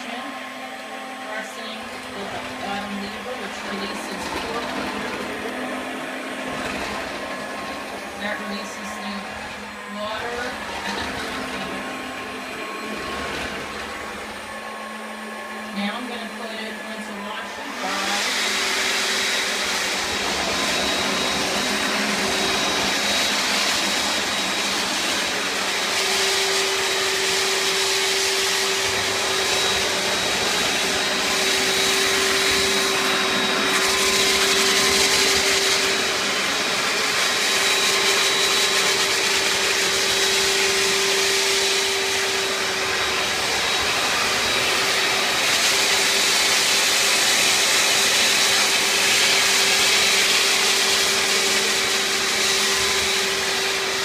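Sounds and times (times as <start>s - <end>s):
floor cleaner whirring: 0.0s - 54.0s.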